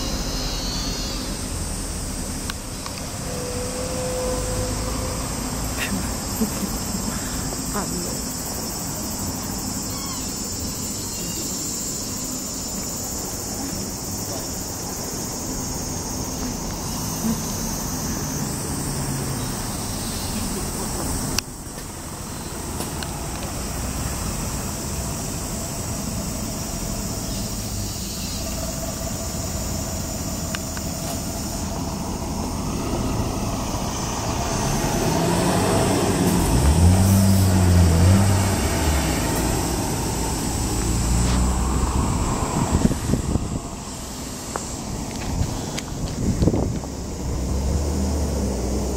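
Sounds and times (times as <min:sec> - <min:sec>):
car passing close: 0:00.0 - 0:48.9
street traffic: 0:00.0 - 0:48.9.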